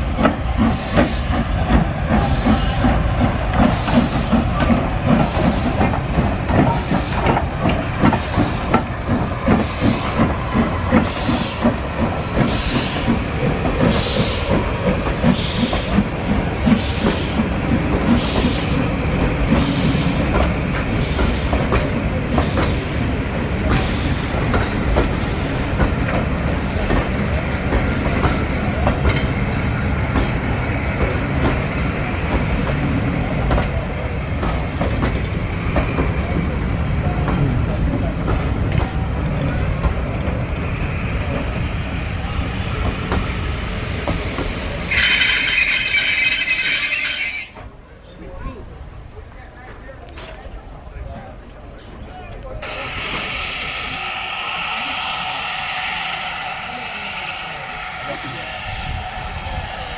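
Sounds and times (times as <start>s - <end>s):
steam locomotive chuffing: 0.0s - 47.8s, 51.4s - 59.9s.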